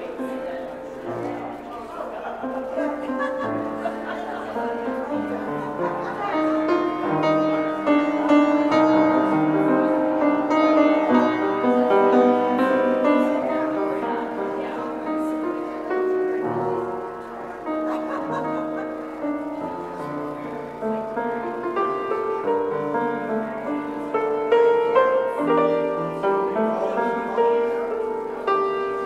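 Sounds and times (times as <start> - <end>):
slow piano piece: 0.0 - 29.0.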